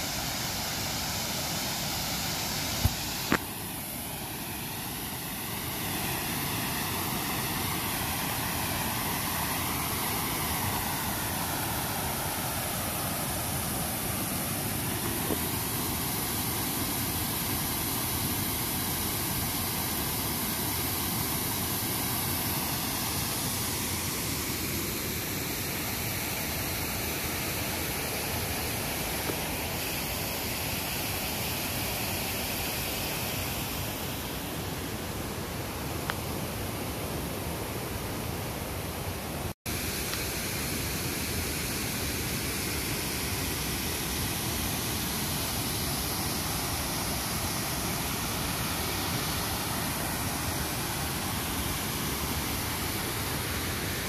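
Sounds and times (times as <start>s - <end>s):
creek rushing over ledges: 0.0s - 54.0s.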